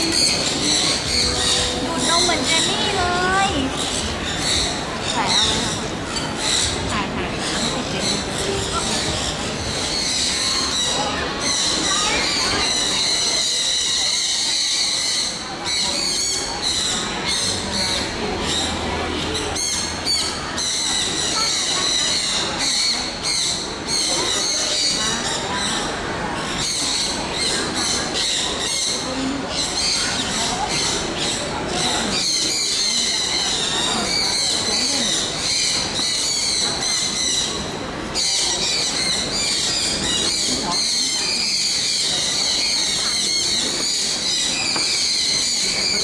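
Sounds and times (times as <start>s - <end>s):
birds squawking and screeching: 0.0s - 46.0s
indistinct crowd voices: 0.0s - 46.0s.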